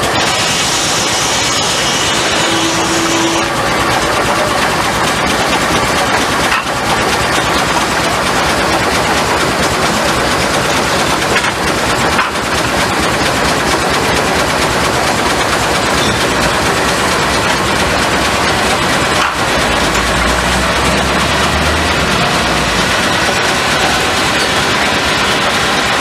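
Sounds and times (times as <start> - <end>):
sawmill machinery clattering: 0.0 - 26.0.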